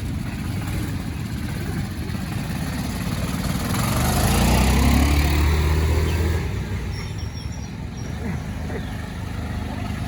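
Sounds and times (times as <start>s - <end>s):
quad bike engine running: 0.0s - 10.0s.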